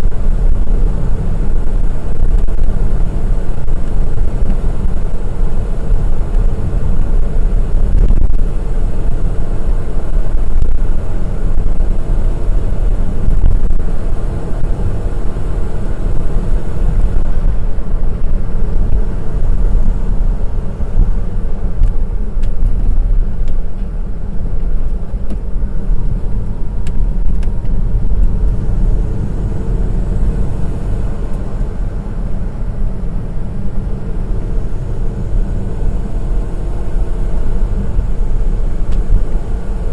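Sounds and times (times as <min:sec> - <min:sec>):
road noise: 0:00.0 - 0:39.9
small car engine rumbling: 0:00.0 - 0:39.9.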